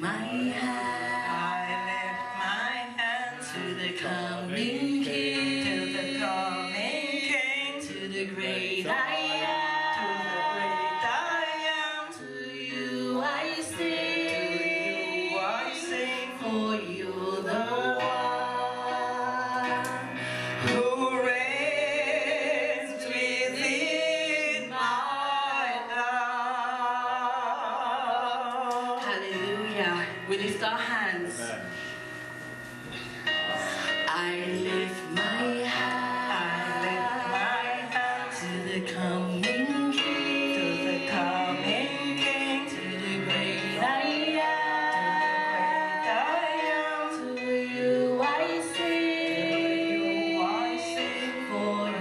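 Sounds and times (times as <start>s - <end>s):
voices singing worship song: 0.0s - 52.0s.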